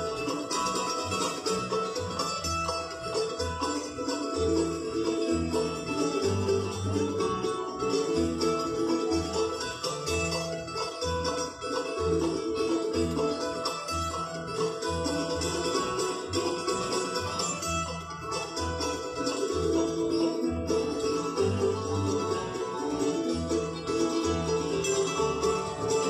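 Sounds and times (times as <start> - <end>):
bluegrass band playing: 0.0 - 26.0
upright bass notes: 0.0 - 26.0.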